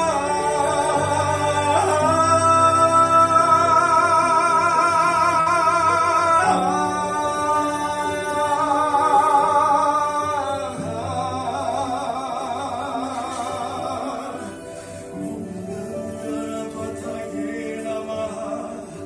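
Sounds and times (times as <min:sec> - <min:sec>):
person singing with vibrato: 0:00.0 - 0:19.0.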